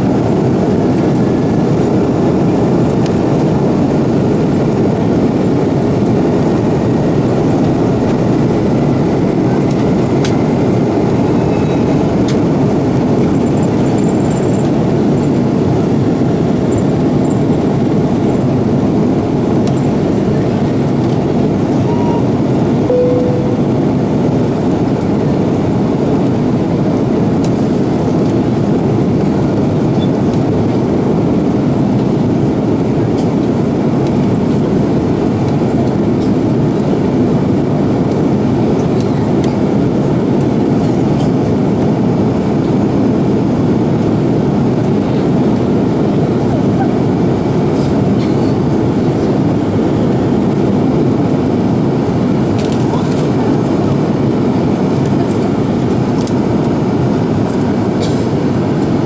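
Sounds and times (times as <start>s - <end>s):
airplane cabin engine roar: 0.0s - 59.0s.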